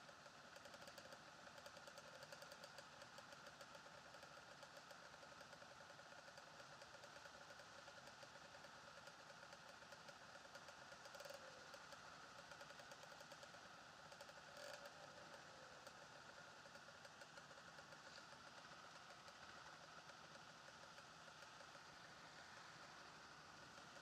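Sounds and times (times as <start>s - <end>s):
faint engine idling: 0.0s - 24.0s.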